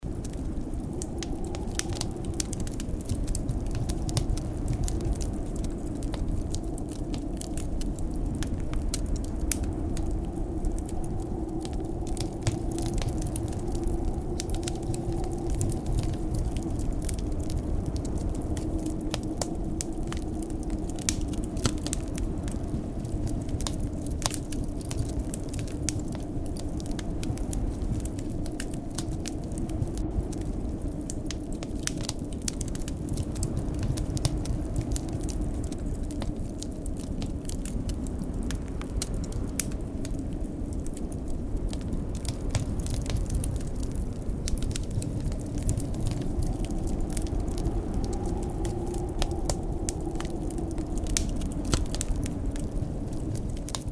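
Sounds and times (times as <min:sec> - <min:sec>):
blizzard wind rumble: 0:00.0 - 0:53.9
wood fire crackling and popping: 0:00.0 - 0:53.9.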